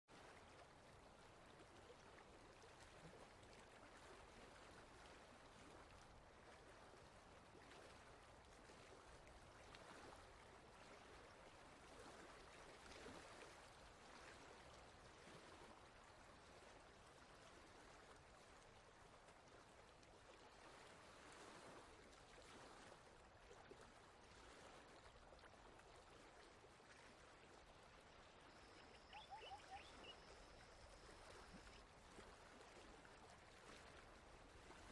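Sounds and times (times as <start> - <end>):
flowing water rushing: 0.2 - 34.9.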